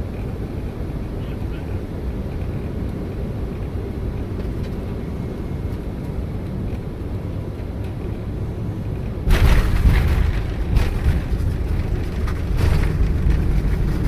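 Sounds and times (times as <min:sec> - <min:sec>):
jet cabin engine rumble: 0:00.0 - 0:14.0.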